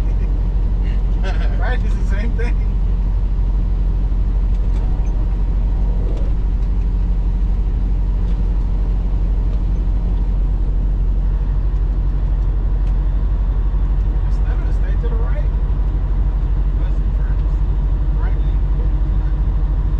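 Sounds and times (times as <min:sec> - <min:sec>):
diesel truck engine droning: 0:00.0 - 0:19.9
road noise: 0:00.0 - 0:19.9.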